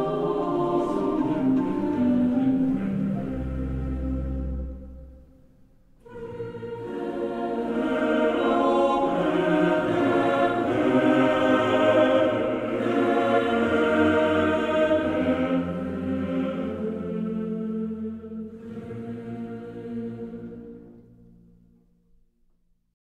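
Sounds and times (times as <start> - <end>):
choir singing held chords: 0.0 - 5.4, 6.0 - 21.5.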